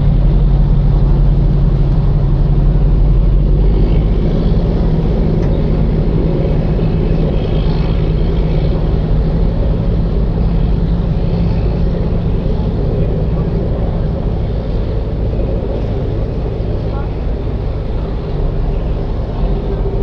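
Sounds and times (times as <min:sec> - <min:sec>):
ferry engine humming: 0:00.0 - 0:20.0
water wash: 0:00.0 - 0:20.0
wind noise: 0:00.0 - 0:20.0.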